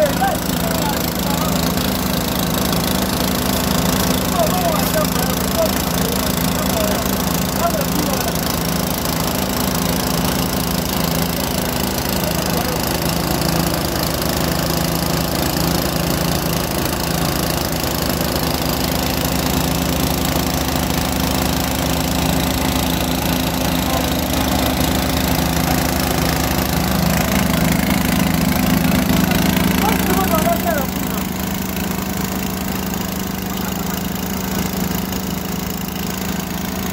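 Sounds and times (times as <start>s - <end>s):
small engine running steadily: 0.0s - 36.9s.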